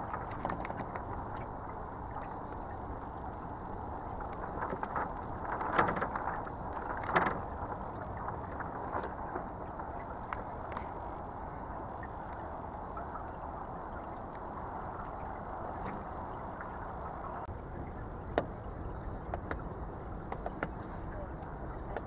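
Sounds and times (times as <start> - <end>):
low water wash: 0.0 - 22.0.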